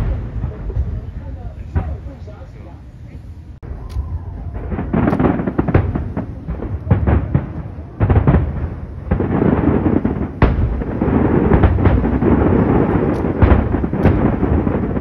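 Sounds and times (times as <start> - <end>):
deep rumble: 0.0 - 15.0
fireworks bangs and crackles: 0.0 - 15.0.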